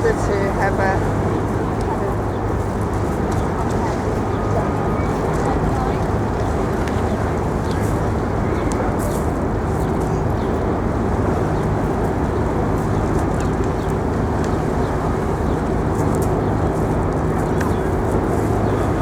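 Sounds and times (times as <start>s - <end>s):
steady outdoor roar: 0.0s - 19.0s.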